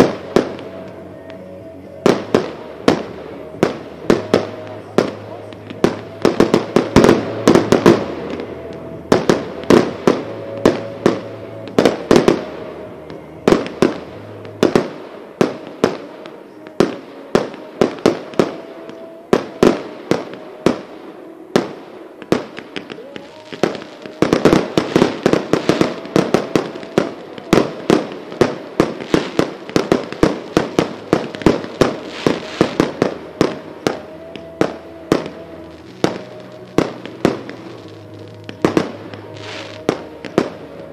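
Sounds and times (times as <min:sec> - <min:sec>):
fireworks banging: 0:00.0 - 0:40.9
fireworks crackling: 0:00.0 - 0:40.9.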